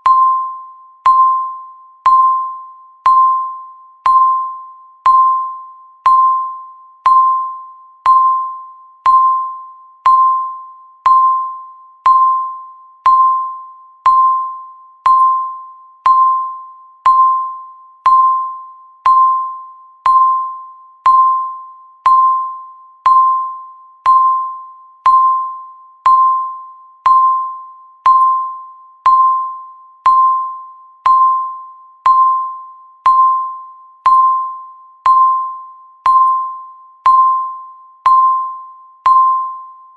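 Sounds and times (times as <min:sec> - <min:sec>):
timer tick ping: 0:00.0 - 0:39.9.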